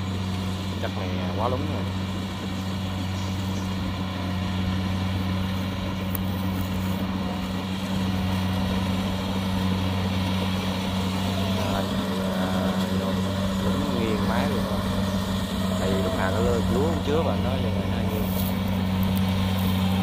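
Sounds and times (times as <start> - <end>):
combine harvester diesel engine: 0.0 - 20.0.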